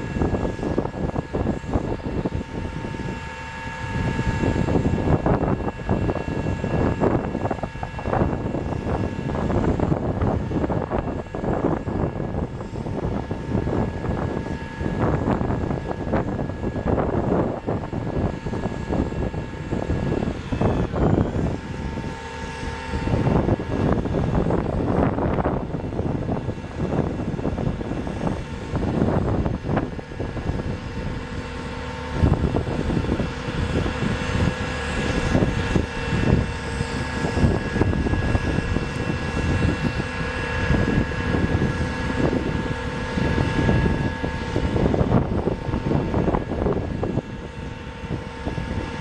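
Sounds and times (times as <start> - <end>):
diesel engine running: 0.0 - 49.0
hydraulic whine: 0.0 - 49.0.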